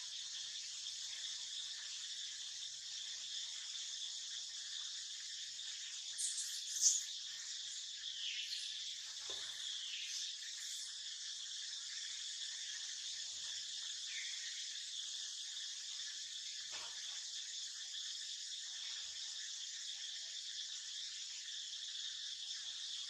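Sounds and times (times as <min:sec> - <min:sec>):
insect chorus: 0:00.0 - 0:23.0
short high insect calls: 0:00.0 - 0:23.0.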